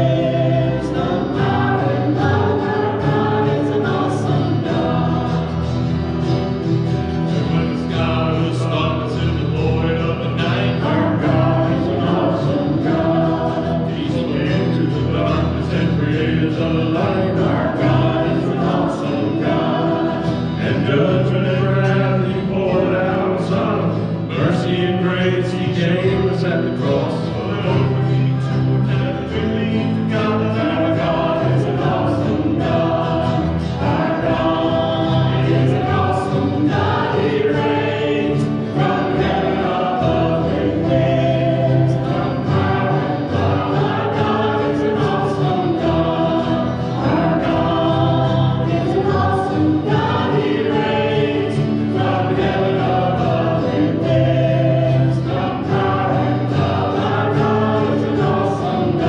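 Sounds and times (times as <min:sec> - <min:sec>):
group singing a gospel hymn: 0:00.0 - 0:59.0.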